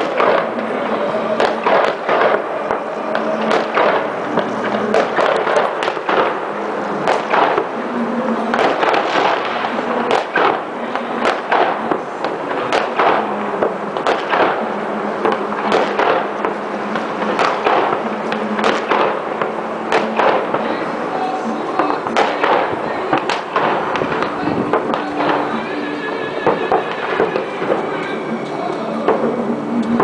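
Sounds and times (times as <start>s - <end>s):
fireworks crackling and popping: 0.0s - 30.0s
loud firework reports: 0.0s - 30.0s.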